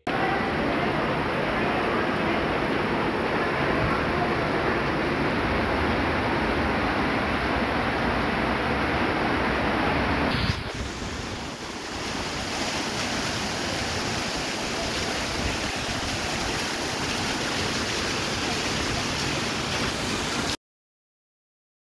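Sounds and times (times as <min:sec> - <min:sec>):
floodwater rushing: 0:00.1 - 0:20.6
heavy rain: 0:00.1 - 0:20.6.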